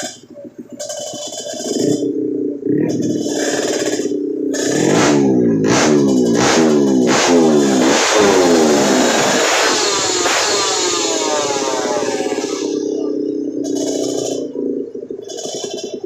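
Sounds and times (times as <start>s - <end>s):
motorbike engine revving: 0.8s - 16.0s.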